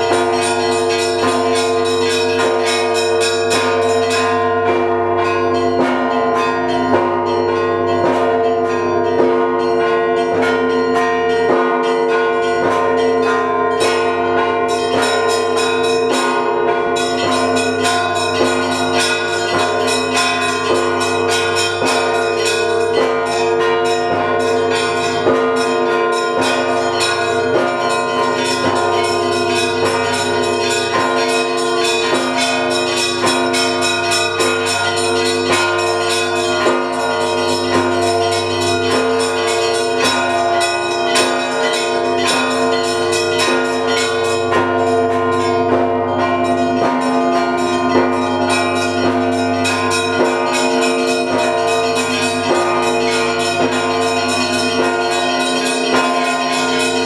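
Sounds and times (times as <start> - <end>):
bells ringing: 0.0 - 57.0
hum of large bells: 0.0 - 57.0.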